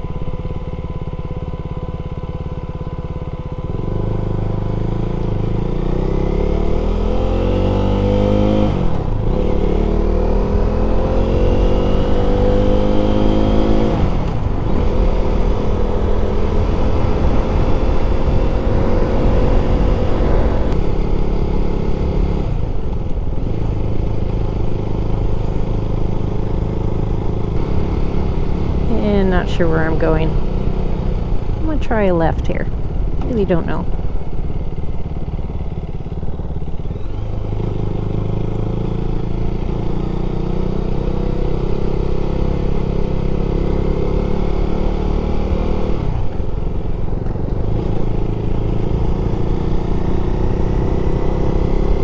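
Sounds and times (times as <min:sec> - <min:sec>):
motorcycle engine revving and upshifting: 0:00.0 - 0:52.0.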